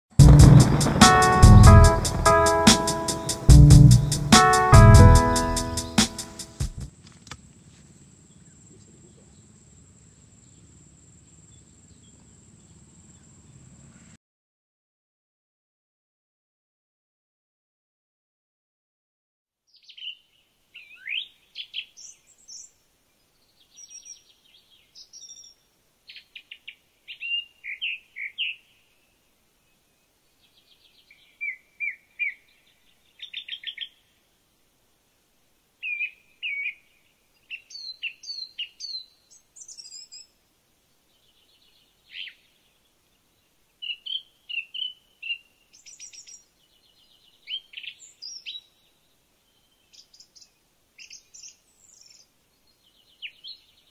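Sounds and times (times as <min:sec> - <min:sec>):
songbirds singing: 0:00.3 - 0:14.2, 0:19.7 - 0:34.2, 0:35.8 - 0:53.9.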